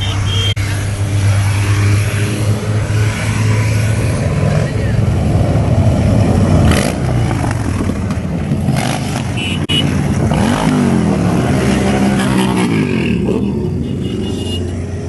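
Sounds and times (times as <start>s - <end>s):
engine revving: 0.0s - 13.7s
vehicle engines running: 0.0s - 15.0s.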